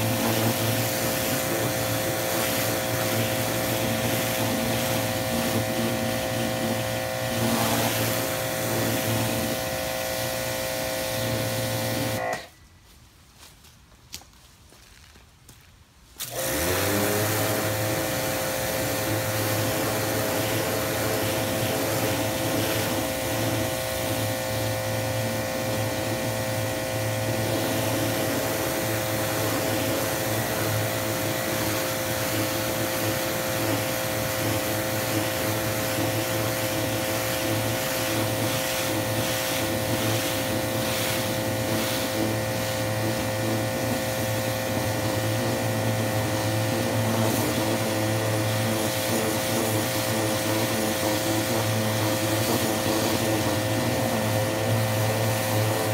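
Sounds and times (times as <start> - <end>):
water jet hissing on wood: 0.0 - 12.3, 16.2 - 55.9
pressure washer motor whine: 0.0 - 12.6, 16.2 - 55.9.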